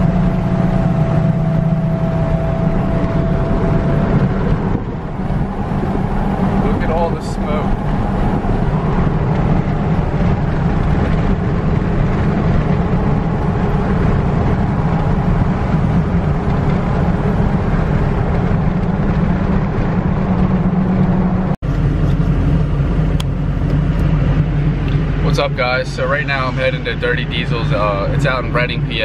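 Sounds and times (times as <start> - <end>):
diesel engine and exhaust drone: 0.0 - 29.0
road noise: 0.0 - 29.0.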